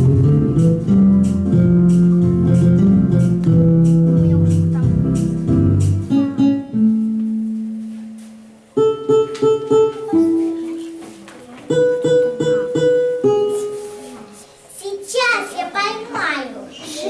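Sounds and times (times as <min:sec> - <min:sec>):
plucked string instrument music: 0:00.0 - 0:14.4.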